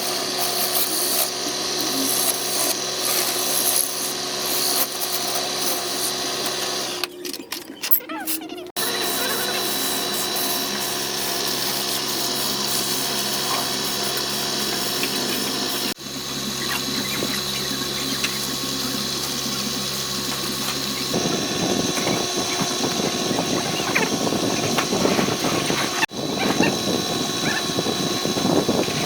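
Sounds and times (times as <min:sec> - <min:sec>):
turning tool scraping wood: 0:00.0 - 0:07.0, 0:08.3 - 0:29.0
lathe motor hum: 0:00.0 - 0:07.1, 0:08.8 - 0:29.0.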